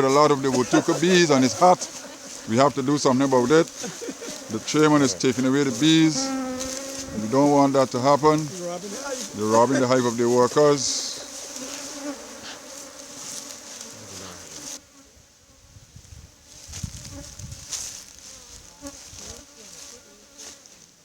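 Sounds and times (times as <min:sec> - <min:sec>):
bees buzzing: 0:00.0 - 0:15.7, 0:16.8 - 0:20.8.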